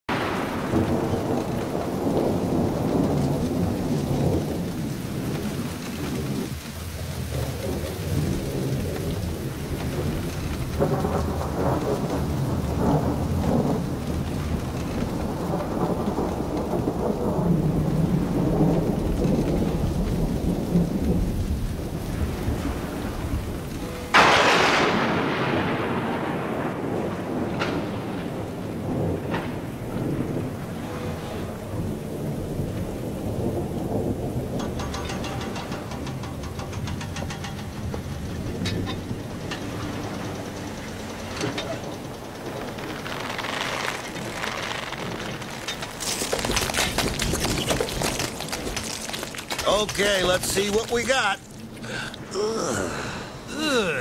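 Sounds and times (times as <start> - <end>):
loud thunderclap: 0.1 - 52.0
rolling thunder: 0.1 - 52.4
rain: 0.1 - 54.0.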